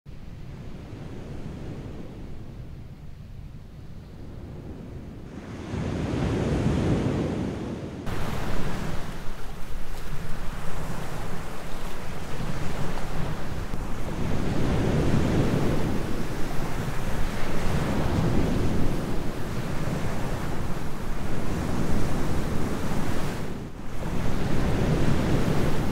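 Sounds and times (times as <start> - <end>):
waves breaking: 4.0 - 25.9.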